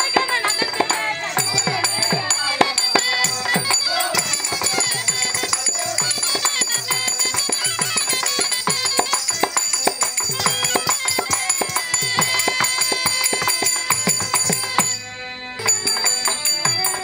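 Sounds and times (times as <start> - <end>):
ankle bells jingling: 0.0 - 15.0, 15.6 - 17.0.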